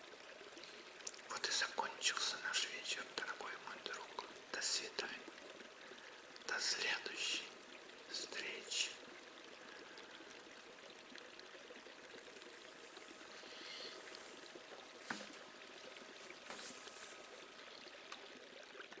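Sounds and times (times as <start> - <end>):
faint stream running: 0.0 - 19.0.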